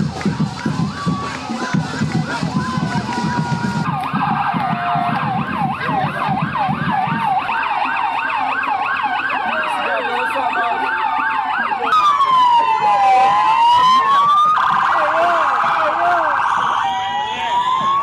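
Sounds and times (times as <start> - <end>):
siren wailing: 0.0 - 18.0
sirens yelping: 0.0 - 18.0.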